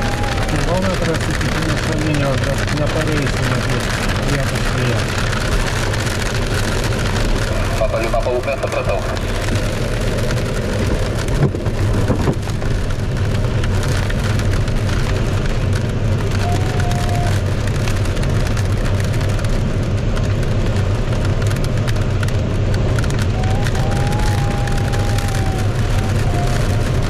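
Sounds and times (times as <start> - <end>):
rain drumming on canopy: 0.0 - 27.0.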